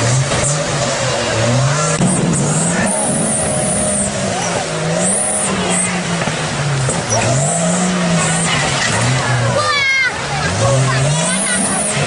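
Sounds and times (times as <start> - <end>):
off-road vehicle engine revving: 0.0 - 12.0
steady rushing noise: 0.0 - 12.0.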